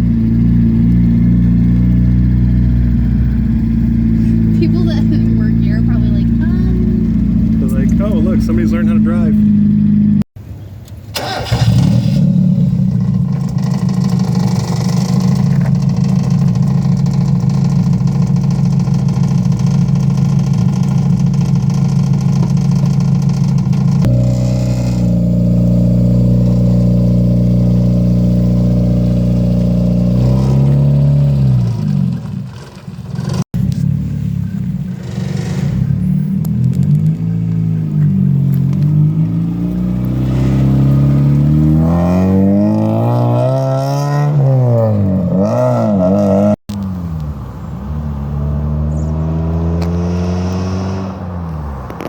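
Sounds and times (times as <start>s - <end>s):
car engine running: 0.0s - 10.3s, 11.2s - 44.0s.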